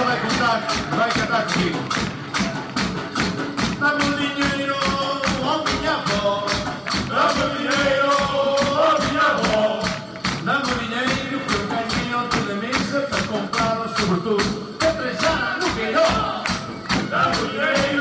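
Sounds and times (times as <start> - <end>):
man singing: 0.0 - 2.0, 3.7 - 18.0
bass drums beating: 0.0 - 18.0.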